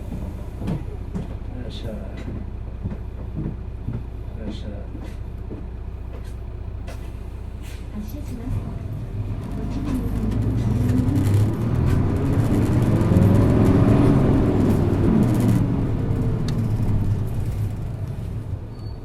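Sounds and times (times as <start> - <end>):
bus diesel engine accelerating: 0.0 - 19.0.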